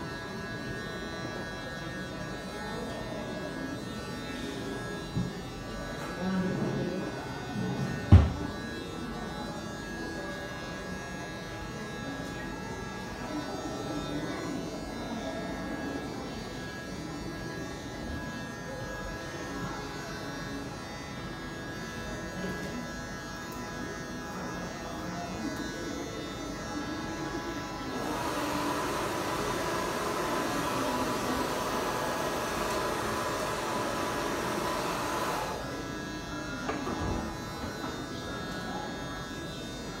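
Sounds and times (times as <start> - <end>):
electric hair clippers running: 0.0 - 40.0.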